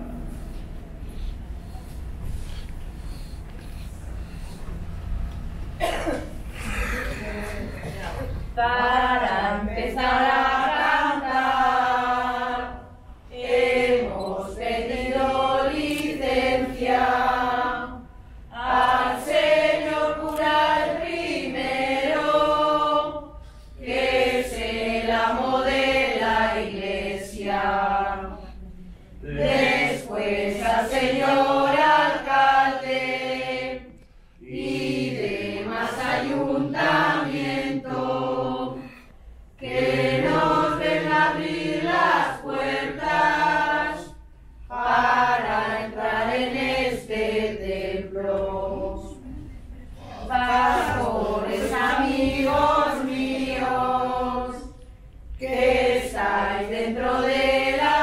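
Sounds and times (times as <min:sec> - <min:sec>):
women singing unaccompanied: 0:08.5 - 0:28.7, 0:29.4 - 0:38.8, 0:39.6 - 0:49.5, 0:50.2 - 0:54.8, 0:55.4 - 0:58.0.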